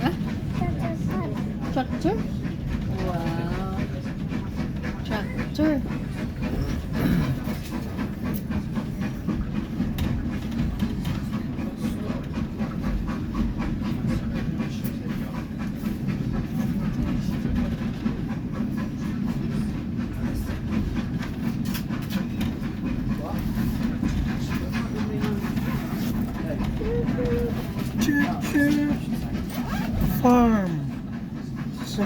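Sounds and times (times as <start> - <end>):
train wheels rumbling on track: 0.0 - 32.0
rail joint clicks: 0.2 - 32.0.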